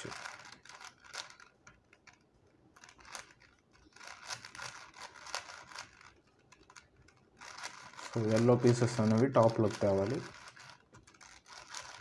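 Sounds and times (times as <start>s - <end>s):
puzzle cube clicking: 0.0s - 12.0s.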